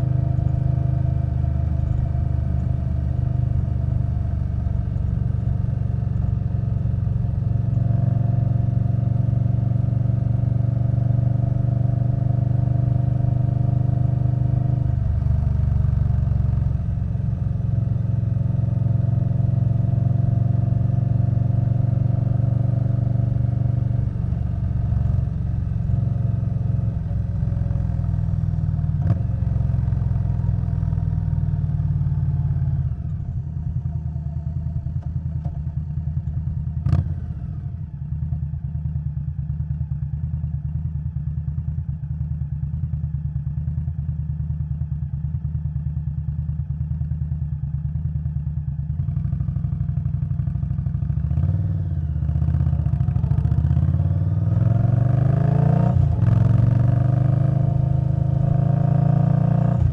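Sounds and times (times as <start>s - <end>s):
motorcycle engine while riding: 0.0s - 59.9s.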